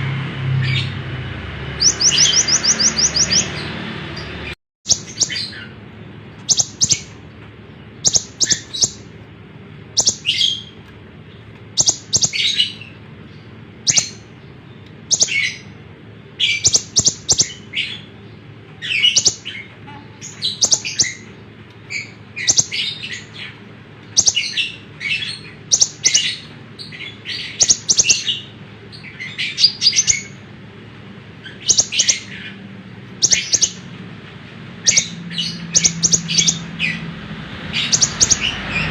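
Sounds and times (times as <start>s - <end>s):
sunbird rapid chirping: 1.7s - 7.2s, 7.9s - 9.2s, 9.9s - 30.4s, 31.4s - 33.9s, 34.8s - 38.9s.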